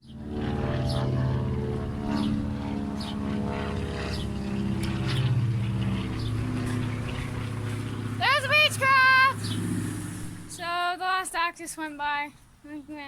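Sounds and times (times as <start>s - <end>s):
propeller airplane flying over: 0.0s - 10.7s.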